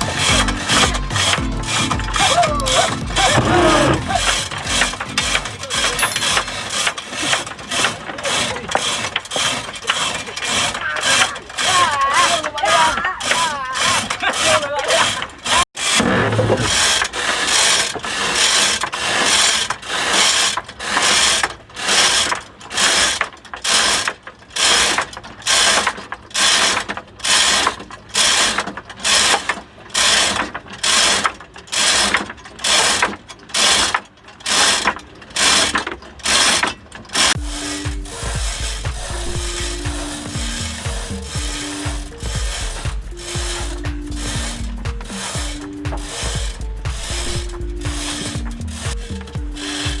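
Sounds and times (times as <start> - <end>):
ratchet winch clattering: 0.0 - 50.0.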